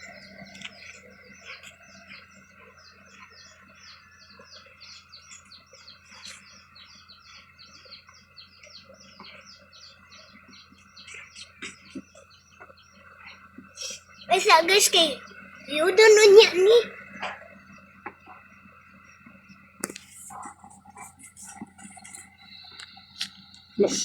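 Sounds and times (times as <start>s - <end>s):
birds chirping: 0.0s - 24.0s
faint low hum: 0.0s - 24.0s.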